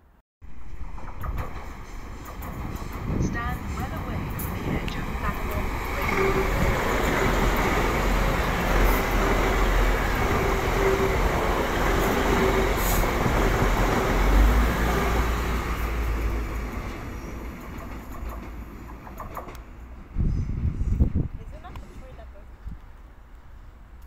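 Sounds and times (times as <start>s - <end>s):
diesel train rumbling past: 0.4s - 24.0s.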